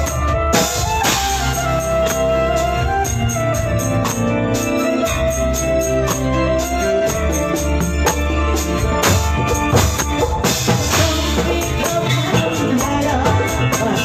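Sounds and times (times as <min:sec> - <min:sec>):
organ-like keyboard chords: 0:00.0 - 0:14.0
steady bass: 0:00.0 - 0:14.0
tambourine jingling: 0:00.0 - 0:14.0.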